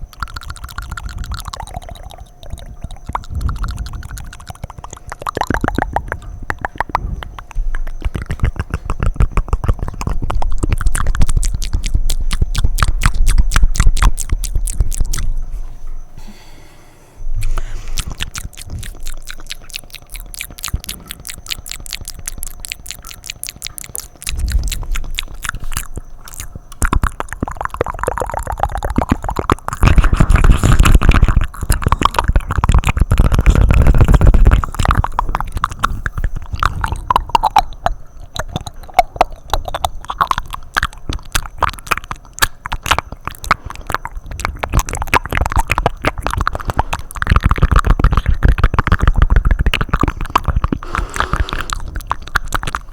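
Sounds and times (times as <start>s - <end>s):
wet mouth clicks and smacks: 0.0s - 15.4s, 17.4s - 52.9s.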